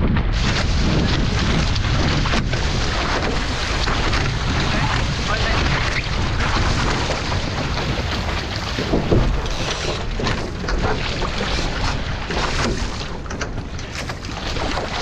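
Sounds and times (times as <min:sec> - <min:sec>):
water rushing past hulls: 0:00.0 - 0:15.0
wind buffeting microphone: 0:00.0 - 0:15.0.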